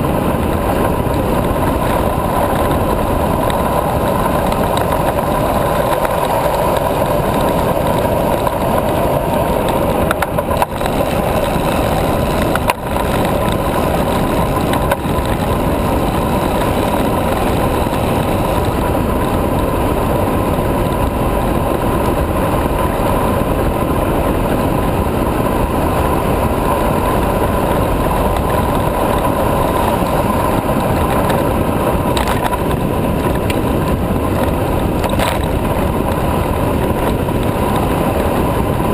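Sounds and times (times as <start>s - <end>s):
rushing wind noise: 0.0s - 38.9s
tyres rolling on asphalt: 0.0s - 38.9s.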